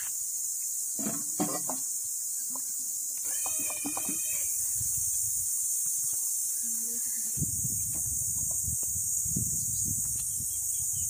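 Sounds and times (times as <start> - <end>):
insect chorus hiss: 0.0 - 11.0.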